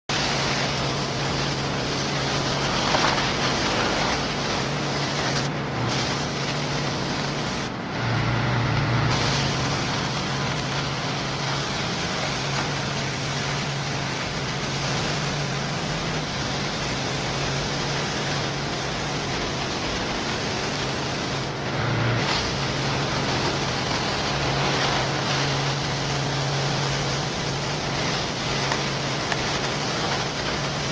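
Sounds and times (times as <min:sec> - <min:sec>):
pressure washer motor hum: 0:00.0 - 0:30.9
water jet hissing on brick: 0:00.0 - 0:30.9.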